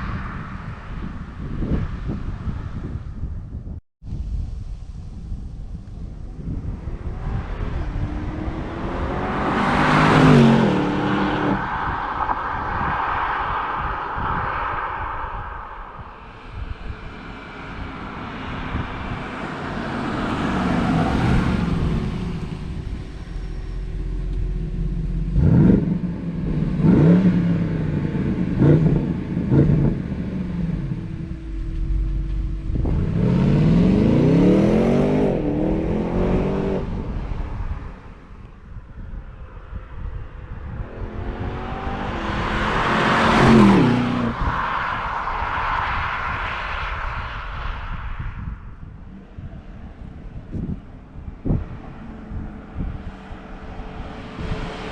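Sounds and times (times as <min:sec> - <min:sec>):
car engine revving: 0:05.9 - 0:38.6, 0:40.3 - 0:54.9
car driving past: 0:06.5 - 0:54.9.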